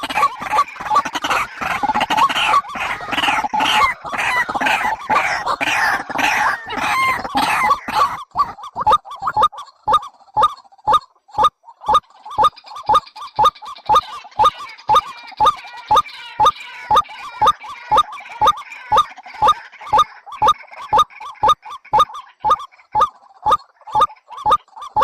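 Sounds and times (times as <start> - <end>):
bird calls: 0.0 - 25.0.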